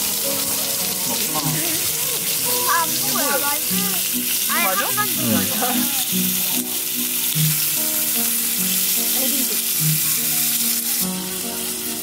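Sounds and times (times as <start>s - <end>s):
pork sizzling in a frying pan: 0.0s - 12.0s.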